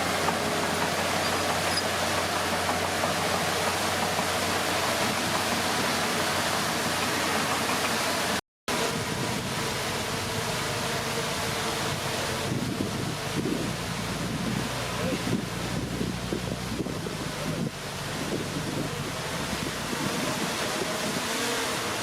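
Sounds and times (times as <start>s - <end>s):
diesel engine running: 0.0s - 20.4s.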